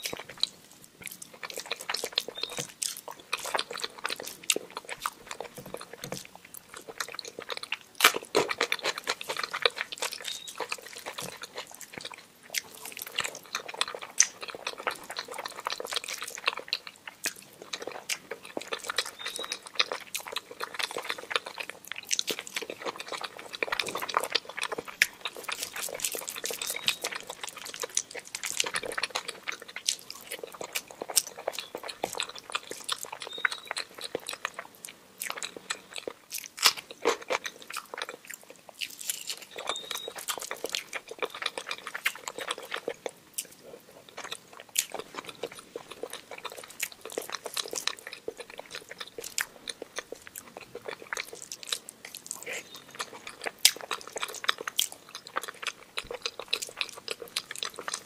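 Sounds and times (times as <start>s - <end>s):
chewing and mouth clicks: 0.0s - 58.0s.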